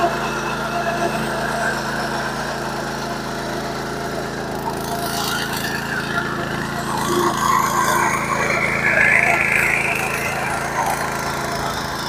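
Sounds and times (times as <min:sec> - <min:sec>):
petrol engine running under load: 0:00.0 - 0:12.0.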